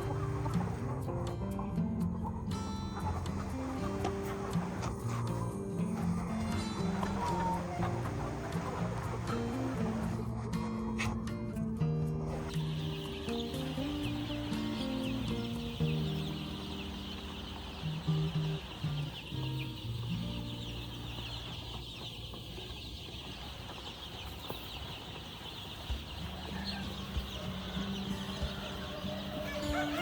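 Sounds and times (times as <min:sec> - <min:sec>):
chickens clucking: 0:00.0 - 0:11.6, 0:12.2 - 0:30.0
soft background music: 0:00.0 - 0:30.0.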